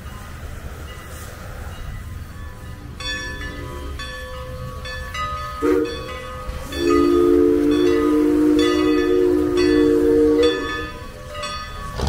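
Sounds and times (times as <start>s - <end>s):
steam locomotive chime whistle: 0.9s - 12.0s.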